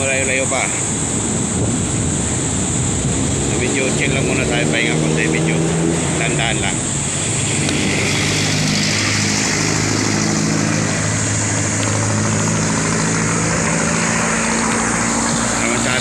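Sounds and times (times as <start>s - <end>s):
vehicle engines humming: 0.0s - 16.0s
wind and road noise: 0.0s - 16.0s.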